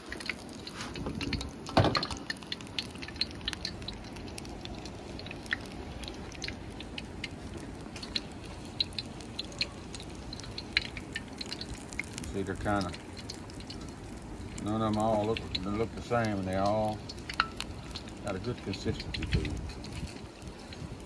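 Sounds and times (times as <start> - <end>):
food frying in hot grease: 0.0 - 21.0.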